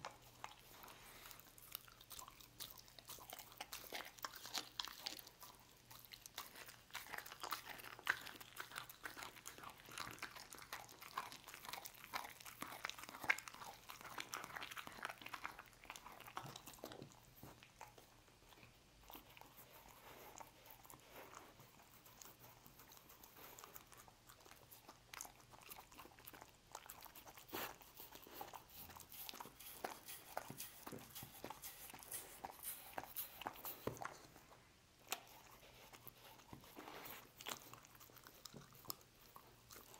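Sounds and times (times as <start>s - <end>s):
dog chewing and licking: 0.0s - 39.9s.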